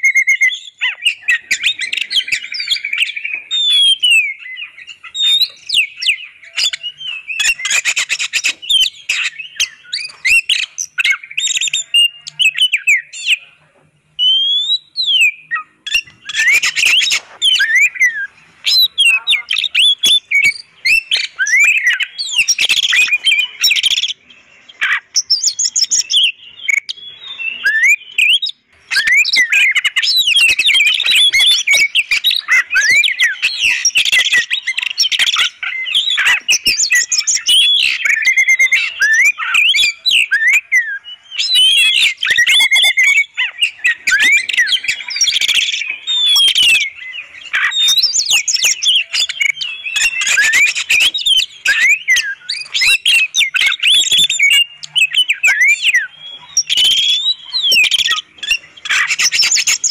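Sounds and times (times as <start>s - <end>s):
bird singing whistles and chirps: 0.0s - 59.9s.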